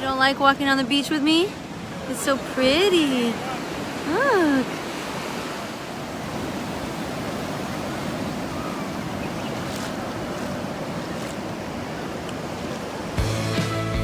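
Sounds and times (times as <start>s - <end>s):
ocean waves breaking on beach: 0.0s - 13.7s.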